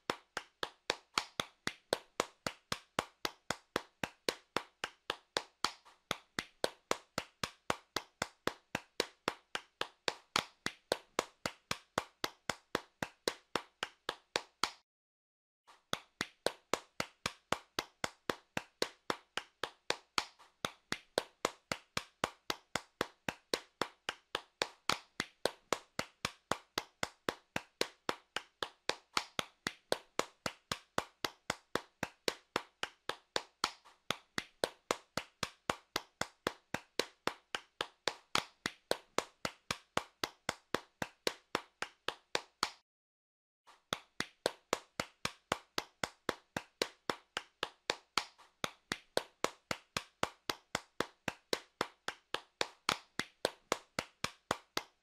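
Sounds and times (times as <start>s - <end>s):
hands clapping: 0.0s - 14.8s, 15.7s - 42.8s, 43.7s - 55.0s.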